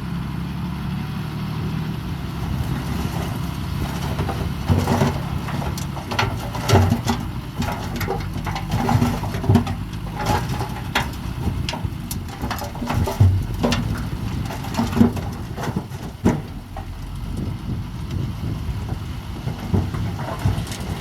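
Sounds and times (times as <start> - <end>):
bulldozer diesel engine: 0.0 - 21.0
clanks and crunches: 2.4 - 21.0
low rumble: 2.5 - 21.0.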